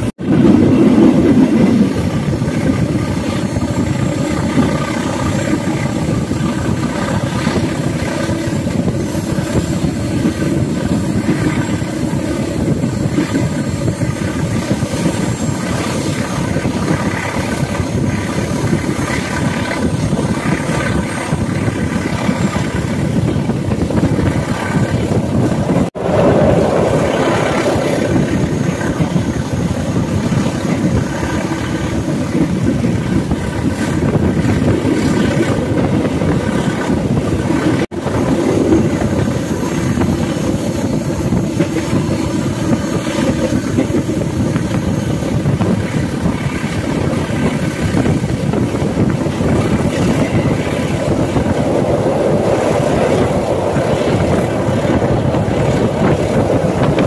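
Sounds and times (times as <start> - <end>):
train running from inside carriage: 0.0 - 57.0.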